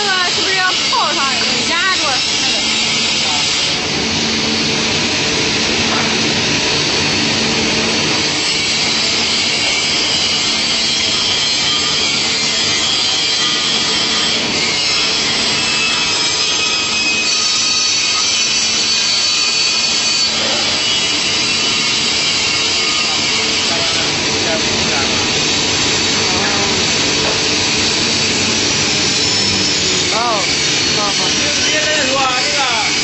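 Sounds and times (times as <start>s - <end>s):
panel saw cutting wood: 0.0s - 33.0s.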